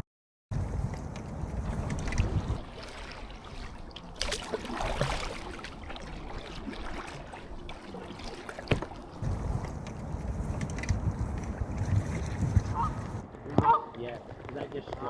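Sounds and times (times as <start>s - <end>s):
wind rumble on microphone: 0.5s - 15.0s
water splashing from paddle: 0.6s - 13.2s.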